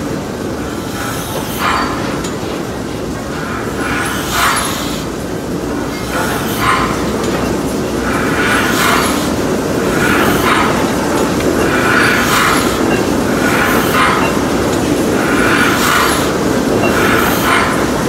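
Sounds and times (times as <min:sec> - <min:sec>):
steam hiss: 0:00.0 - 0:18.0
steam locomotive running gear: 0:00.0 - 0:18.0.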